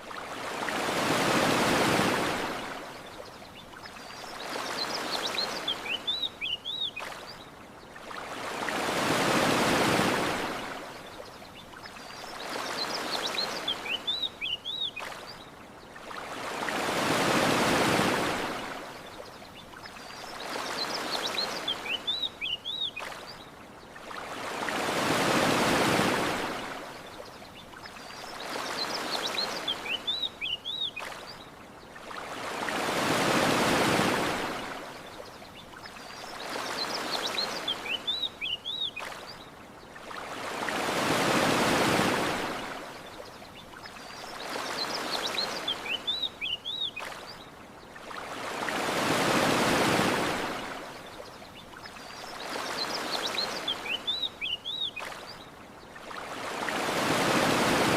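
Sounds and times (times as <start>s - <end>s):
ocean waves washing on shore: 0.0s - 57.9s.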